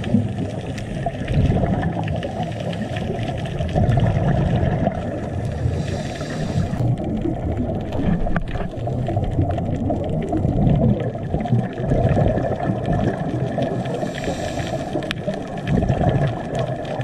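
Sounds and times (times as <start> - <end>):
underwater bubbles gurgling: 0.0 - 17.0.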